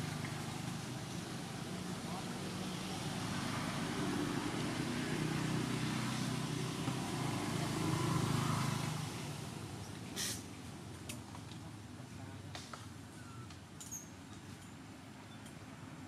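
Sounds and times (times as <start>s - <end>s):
vehicle engine humming: 0.0s - 13.7s.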